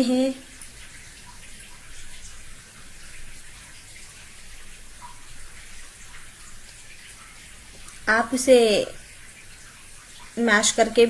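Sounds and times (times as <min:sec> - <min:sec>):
faint drip ticks: 0:00.0 - 0:11.0
rain falling steadily: 0:00.0 - 0:11.0.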